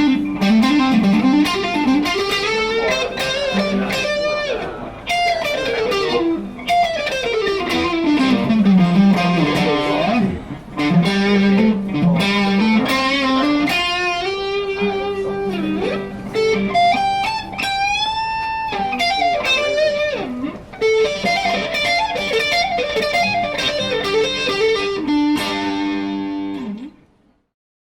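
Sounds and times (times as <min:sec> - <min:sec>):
electric guitar playing: 0:00.0 - 0:27.5.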